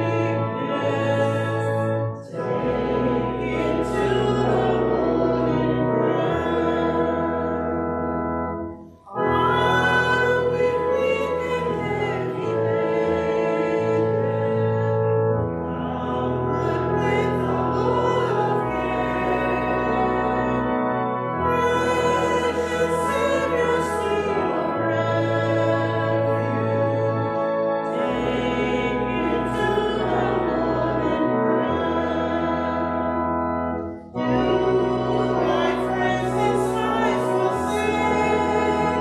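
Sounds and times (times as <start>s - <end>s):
hymn singing: 0.0s - 39.0s
organ held notes: 0.0s - 39.0s.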